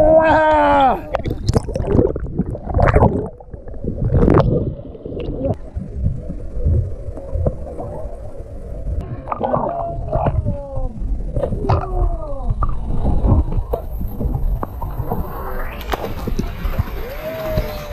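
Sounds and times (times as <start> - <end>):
low rumble: 0.0 - 17.9
muffled water sloshing: 0.9 - 17.9.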